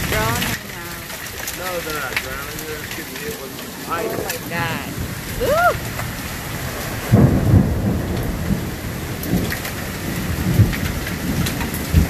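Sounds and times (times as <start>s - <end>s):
heavy rain falling: 0.0s - 12.0s
low thunder rumbles: 0.0s - 12.0s.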